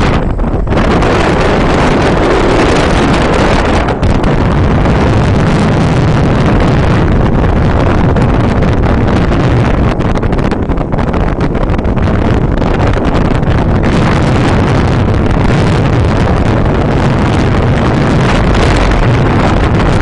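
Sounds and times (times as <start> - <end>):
boat engine running: 0.0 - 20.0
wind buffeting microphone: 0.0 - 20.0.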